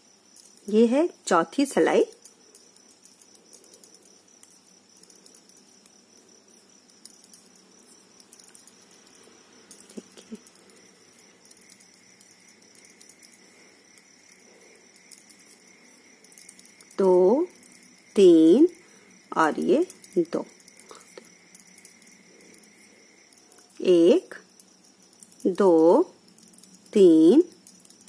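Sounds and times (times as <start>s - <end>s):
knitting needles clicking: 0.0s - 28.0s.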